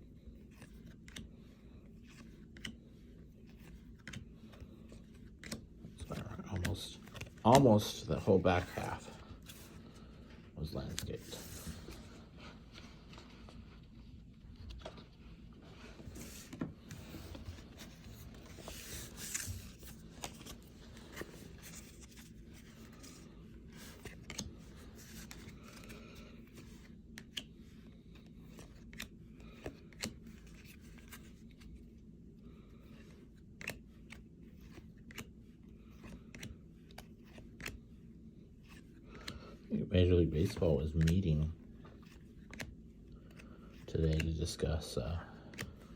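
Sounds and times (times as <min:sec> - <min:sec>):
low room hum: 0:00.0 - 0:45.9
cards clicking and rustling: 0:00.2 - 0:12.0, 0:16.0 - 0:45.9.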